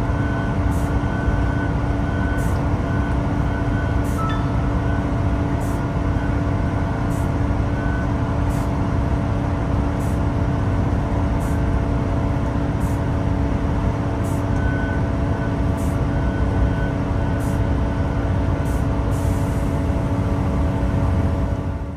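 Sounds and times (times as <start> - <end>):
train engine drone: 0.0 - 21.9.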